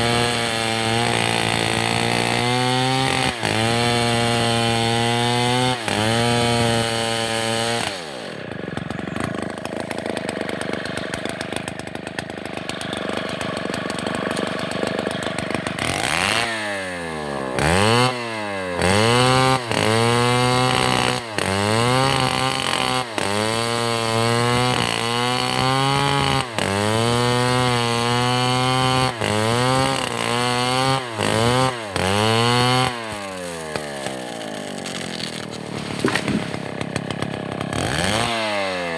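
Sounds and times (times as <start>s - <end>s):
chainsaw cutting and revving: 0.0s - 38.9s.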